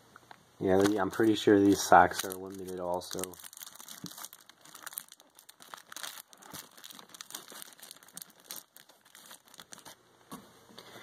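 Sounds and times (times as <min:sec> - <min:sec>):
packaging crinkling and rustling: 0:00.6 - 0:10.0.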